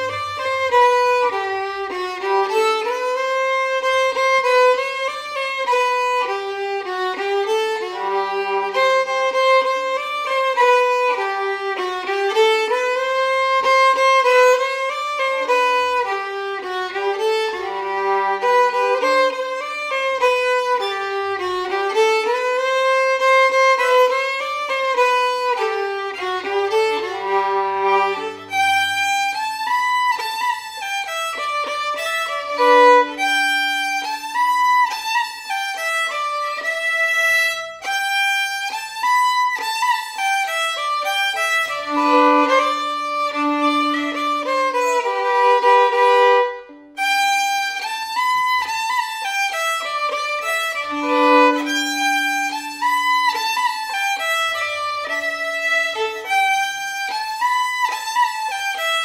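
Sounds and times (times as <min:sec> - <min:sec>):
solo fiddle melody: 0:00.0 - 0:59.0.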